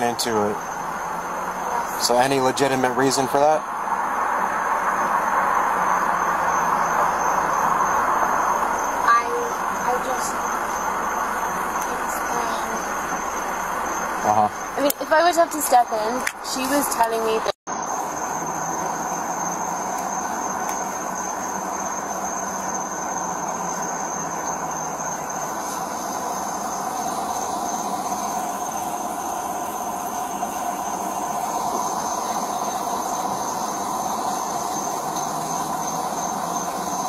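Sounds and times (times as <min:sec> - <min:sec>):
roadside hum and hiss: 0:00.0 - 0:37.0
high-pitched steady tone: 0:05.0 - 0:37.0.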